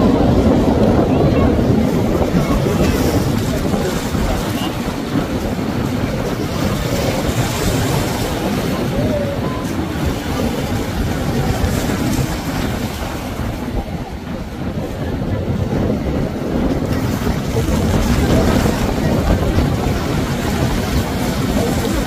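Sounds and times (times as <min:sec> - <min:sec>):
boat engines running: 0:00.0 - 0:22.0
rushing waves: 0:00.0 - 0:22.0
wind buffeting microphone: 0:00.0 - 0:22.0.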